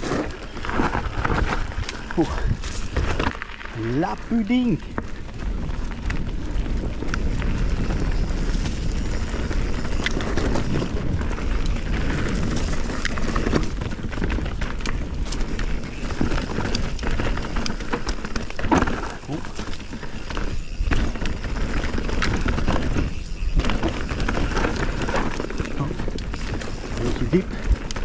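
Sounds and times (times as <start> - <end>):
bike clicks and rattles: 0.0 - 28.0
tyres crackling over dirt and leaves: 0.0 - 28.0.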